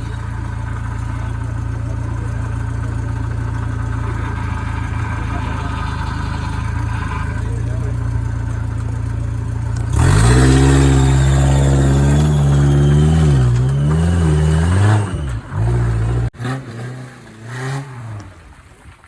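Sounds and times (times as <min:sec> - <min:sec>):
vehicle engine revving: 0:00.0 - 0:18.6.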